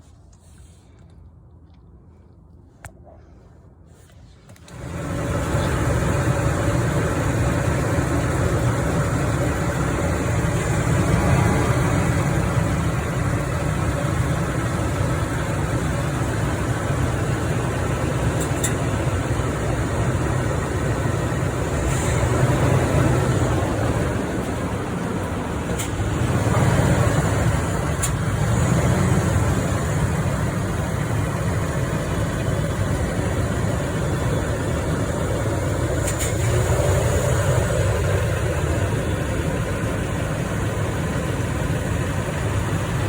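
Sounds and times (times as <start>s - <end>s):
vehicle running with road noise: 0.0s - 43.0s.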